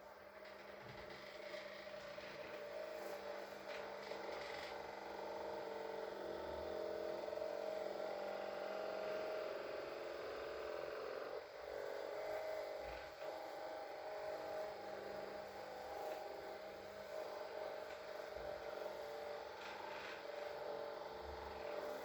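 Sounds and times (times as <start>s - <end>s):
electric massager whirring: 0.0s - 22.0s.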